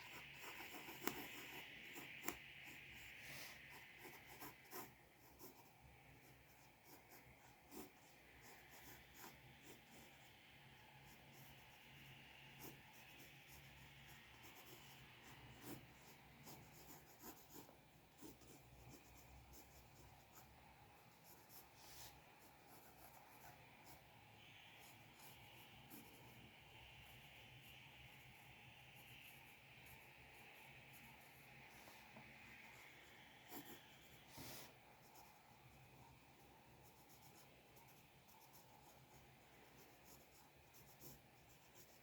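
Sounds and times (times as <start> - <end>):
drawing tool scratching paper: 0.0 - 42.0
faint steady hum: 0.0 - 42.0.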